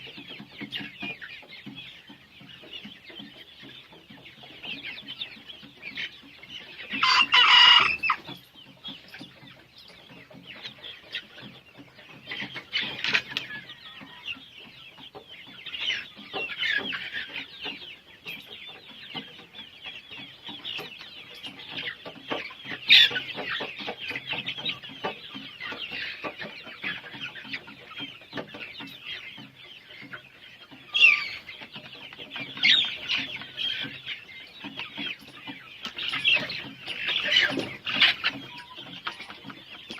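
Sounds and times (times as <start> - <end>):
chickens cheeping and clucking: 0.0 - 39.9.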